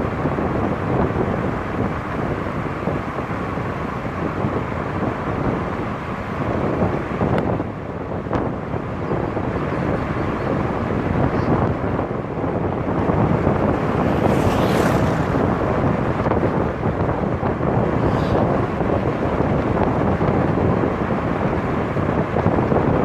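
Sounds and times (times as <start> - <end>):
road rumble: 0.0 - 23.0
wind buffeting microphone: 0.0 - 23.0.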